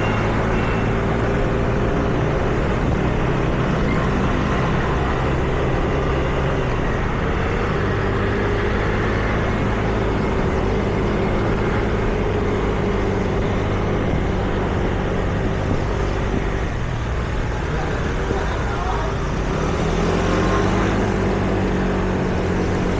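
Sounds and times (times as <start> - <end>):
street traffic: 0.0 - 22.9
vehicle engines running close: 0.0 - 22.9.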